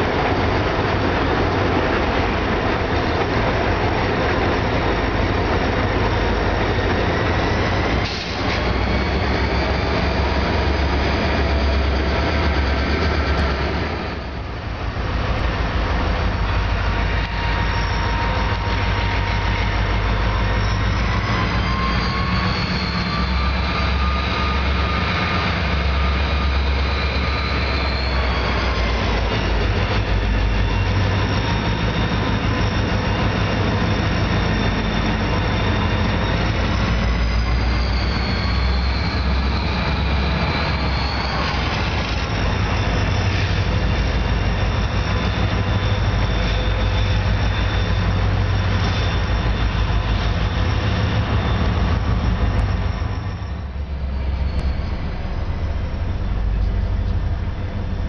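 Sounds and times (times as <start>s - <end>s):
diesel locomotive engines rumbling: 0.0s - 58.0s
train rolling on rails: 0.0s - 58.0s
wheels squealing on rails: 0.0s - 58.0s.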